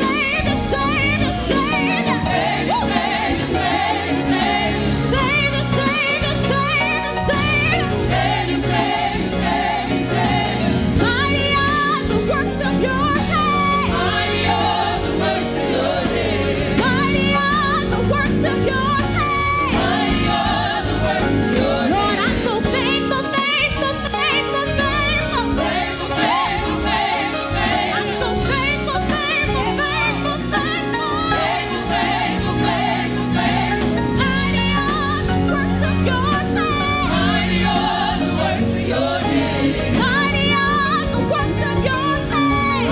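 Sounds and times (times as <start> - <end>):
band with keyboard: 0.0 - 42.9
gospel choir singing: 0.0 - 42.9
lead singer: 0.0 - 42.9.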